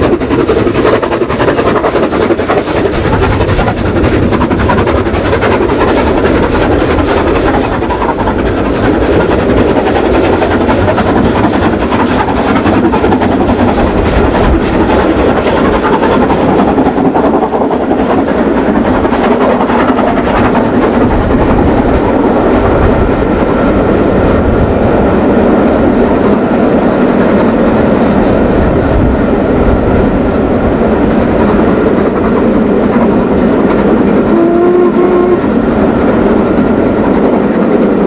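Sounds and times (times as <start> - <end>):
steam locomotive working hard: 0.0 - 38.0
wind buffeting microphone: 0.0 - 38.0.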